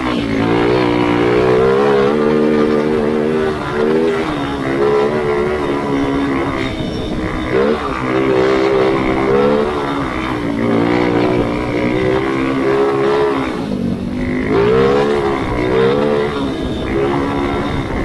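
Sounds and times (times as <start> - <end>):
kart engine revving: 0.0 - 18.0.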